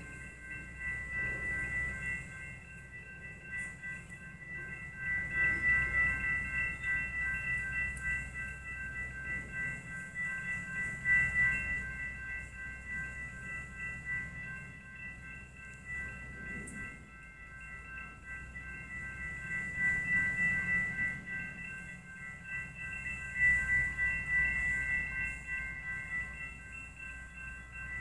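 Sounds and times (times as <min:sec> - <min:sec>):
railroad crossing bells clanging: 0:00.0 - 0:28.0.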